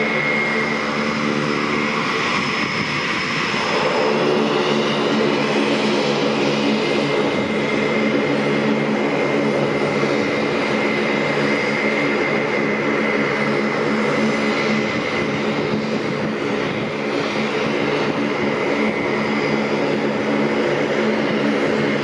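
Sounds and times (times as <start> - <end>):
high turbine whine: 0.0 - 22.0
propeller drone: 0.0 - 22.0.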